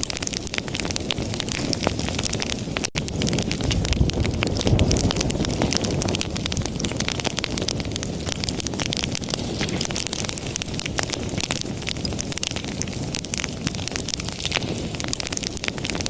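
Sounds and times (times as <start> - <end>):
flames rushing: 0.0 - 16.0
logs crackling and popping: 0.0 - 16.0.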